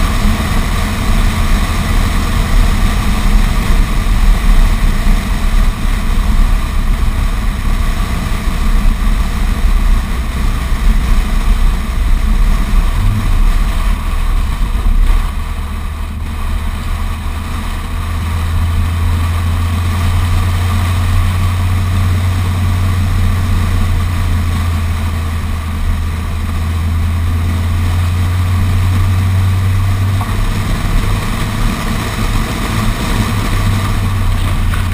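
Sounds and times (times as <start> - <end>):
car engine and tyres droning: 0.0 - 34.9.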